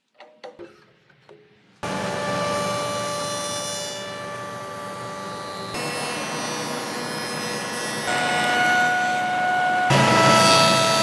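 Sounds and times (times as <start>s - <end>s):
shaper whining while cutting wood: 1.8s - 11.0s.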